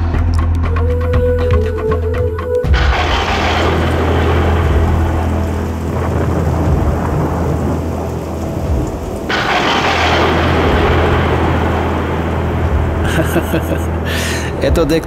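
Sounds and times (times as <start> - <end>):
rain: 2.6 - 15.0
low thunder rumble: 2.7 - 15.0.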